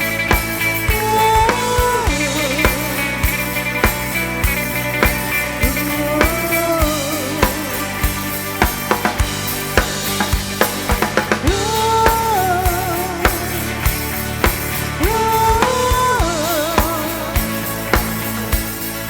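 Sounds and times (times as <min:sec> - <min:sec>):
bass: 0:00.0 - 0:19.0
drum kit beating: 0:00.0 - 0:19.0.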